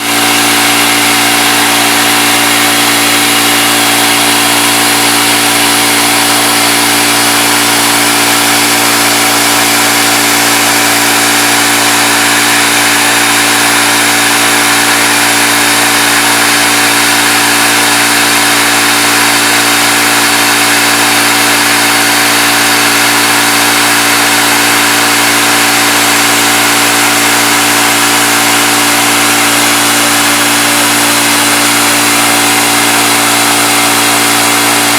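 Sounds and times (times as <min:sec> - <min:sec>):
milling machine motor hum: 0:00.0 - 0:34.9.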